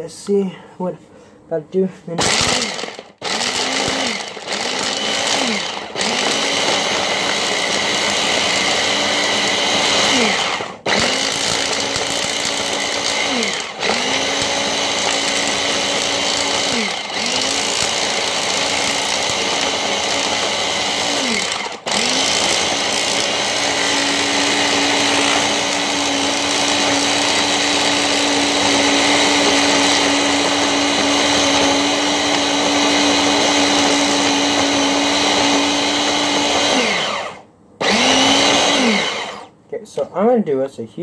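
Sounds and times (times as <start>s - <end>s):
food processor motor churning dough: 2.2s - 39.5s.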